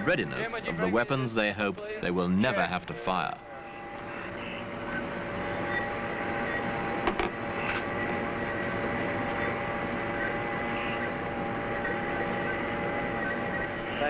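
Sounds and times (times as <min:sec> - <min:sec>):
electronic equipment hum and whine: 0:00.0 - 0:14.0.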